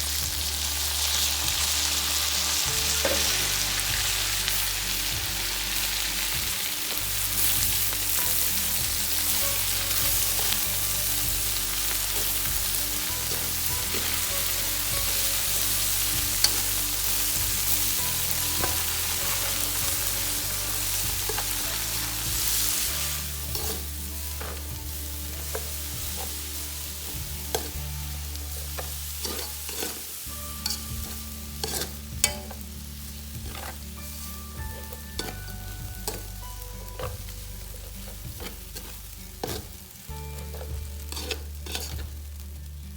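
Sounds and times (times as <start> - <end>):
food sizzling in a pan: 0.0 - 42.9
utensil scraping a pan: 5.8 - 32.7, 33.4 - 42.2.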